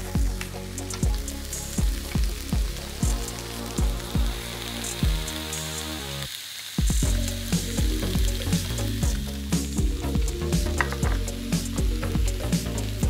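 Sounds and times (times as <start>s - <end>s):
soft background music: 0.0s - 6.3s, 7.0s - 13.0s
vegetables sizzling on a grill: 0.1s - 13.0s.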